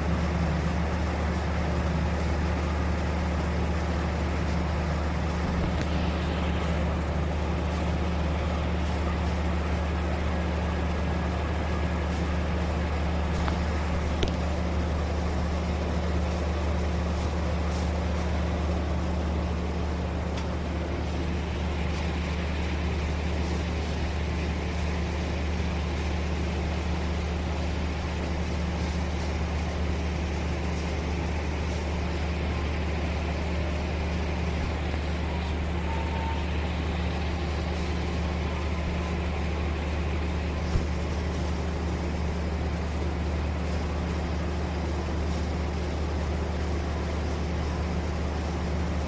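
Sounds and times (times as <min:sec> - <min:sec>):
diesel train engine idling: 0:00.0 - 0:49.0.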